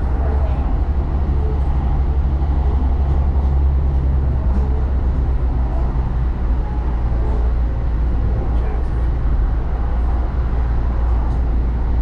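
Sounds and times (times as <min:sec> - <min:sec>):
rail car rumbling on track: 0:00.0 - 0:12.0.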